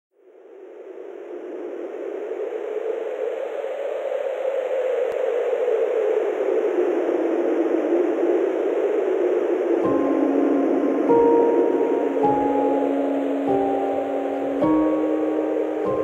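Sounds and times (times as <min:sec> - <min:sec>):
steady rushing noise: 0:00.2 - 0:16.0.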